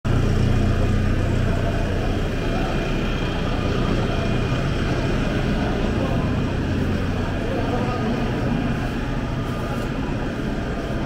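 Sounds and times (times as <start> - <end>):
low rumble and hum: 0.1 - 11.0.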